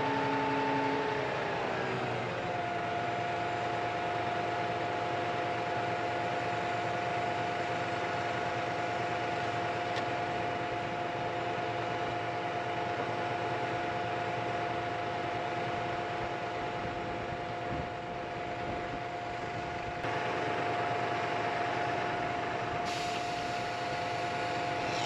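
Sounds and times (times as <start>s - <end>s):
engine idling whine: 0.0s - 25.0s.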